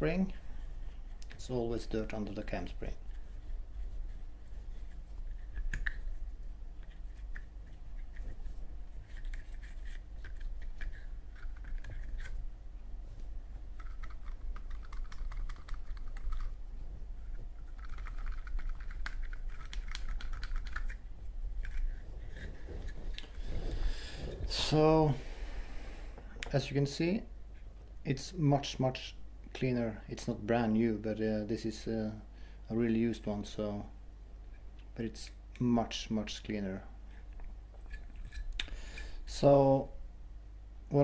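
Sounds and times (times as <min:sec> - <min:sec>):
low hum: 0:00.0 - 0:41.0.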